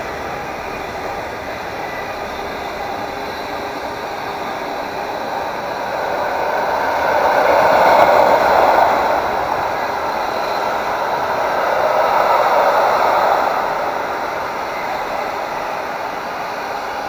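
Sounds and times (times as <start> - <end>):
freight train wheels on rail: 0.0 - 17.0.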